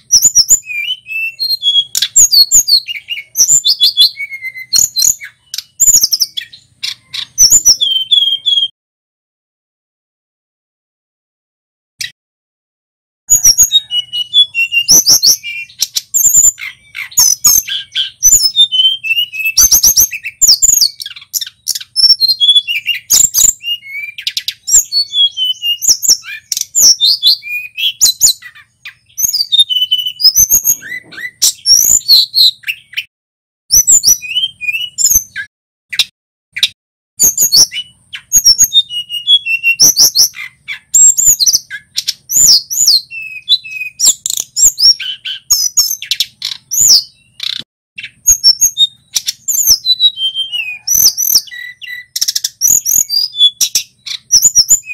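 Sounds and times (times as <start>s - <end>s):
bird singing high chirps: 0.0s - 8.7s, 13.3s - 33.1s, 33.7s - 54.9s.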